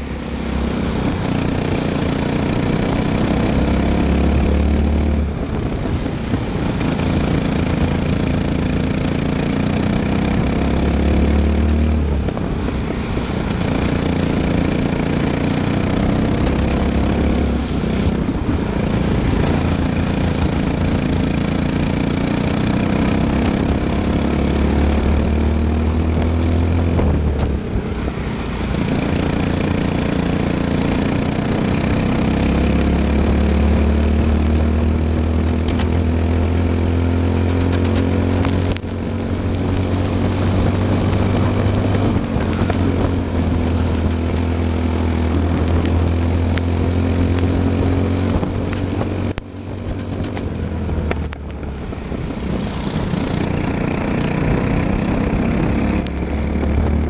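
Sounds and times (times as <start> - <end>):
kart engine accelerating: 0.0 - 57.0.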